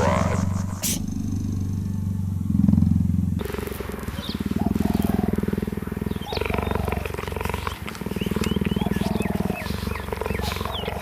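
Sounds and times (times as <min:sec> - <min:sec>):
cheetah purring: 0:00.0 - 0:11.0.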